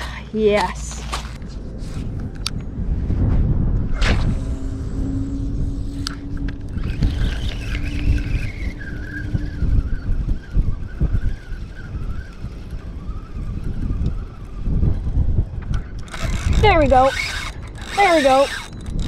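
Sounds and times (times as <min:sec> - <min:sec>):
steady low hum: 0:00.0 - 0:19.0
uneven low rumble: 0:00.9 - 0:16.8
motor whine falling in pitch: 0:03.4 - 0:19.0.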